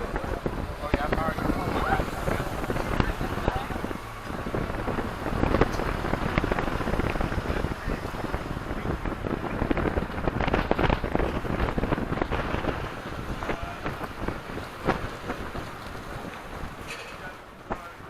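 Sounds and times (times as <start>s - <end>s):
low steady rumble: 0.0s - 18.0s
wind buffeting microphone: 0.0s - 18.0s.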